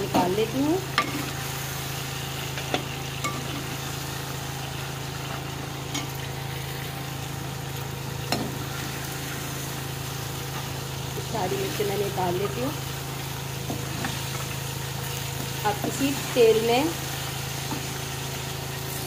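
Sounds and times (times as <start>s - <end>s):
chillies sizzling in hot oil: 0.0s - 19.0s.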